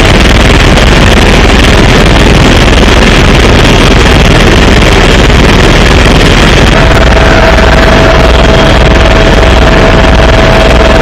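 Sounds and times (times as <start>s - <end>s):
helicopter engine and rotor noise: 0.0s - 11.0s
thin steady whine: 0.0s - 11.0s.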